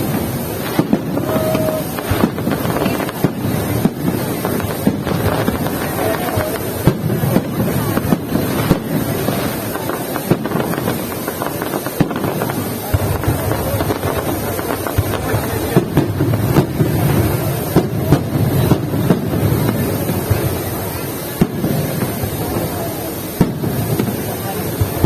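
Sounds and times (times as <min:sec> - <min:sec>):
crowd chatter: 0:00.0 - 0:25.0
firework bangs: 0:00.0 - 0:25.0
firework crackling: 0:00.0 - 0:25.0.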